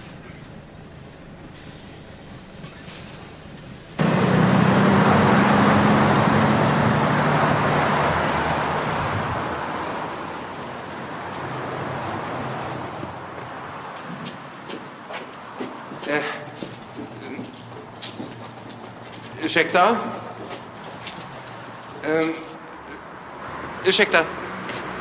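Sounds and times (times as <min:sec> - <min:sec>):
city bus driving past: 0:00.0 - 0:25.0
steady traffic noise: 0:00.0 - 0:25.0.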